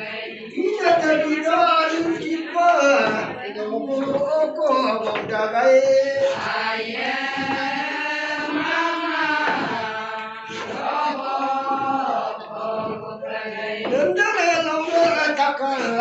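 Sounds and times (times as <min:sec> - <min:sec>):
women chanting in unison: 0:00.0 - 0:05.1, 0:06.2 - 0:14.2.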